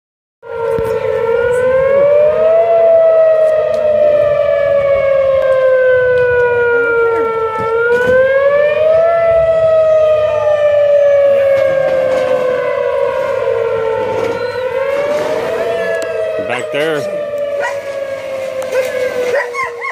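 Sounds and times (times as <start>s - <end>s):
warning siren wailing: 0.4s - 19.9s.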